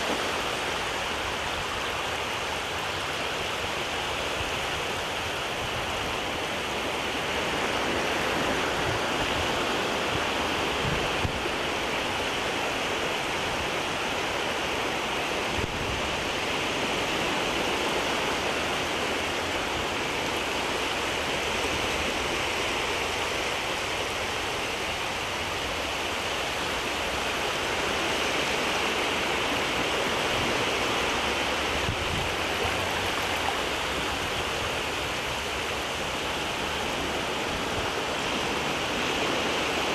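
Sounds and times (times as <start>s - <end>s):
shallow water washing at shore: 0.0s - 39.9s.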